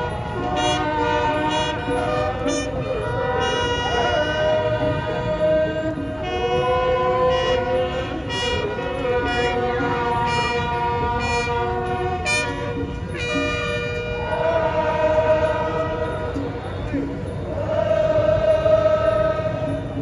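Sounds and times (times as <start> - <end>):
ceremonial music with held notes: 0.0 - 20.0.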